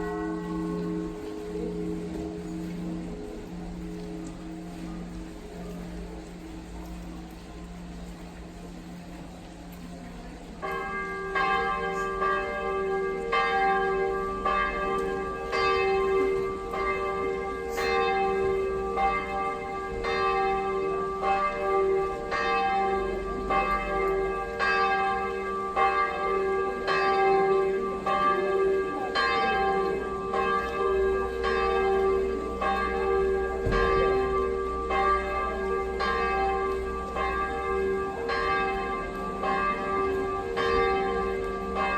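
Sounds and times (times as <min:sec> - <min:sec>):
church bells ringing: 0:00.0 - 0:41.9.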